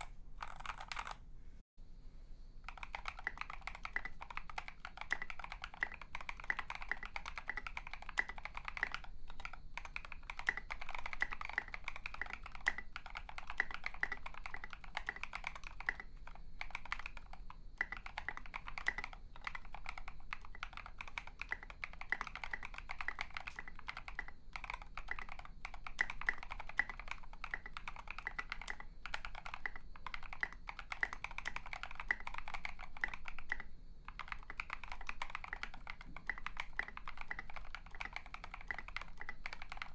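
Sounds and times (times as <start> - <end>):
fast mechanical keyboard typing: 0.0 - 1.2, 2.7 - 39.9.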